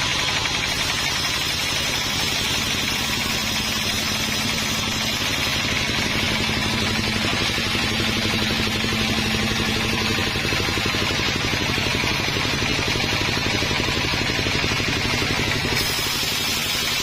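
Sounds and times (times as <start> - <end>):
engine rapid pulsing: 0.0 - 17.0
steady hum: 0.0 - 17.0.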